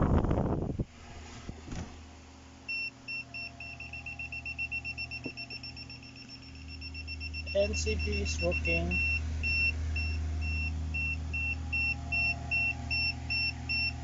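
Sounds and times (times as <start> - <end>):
low steady hum: 0.0 - 14.0
multimeter short high beeps: 2.7 - 14.0.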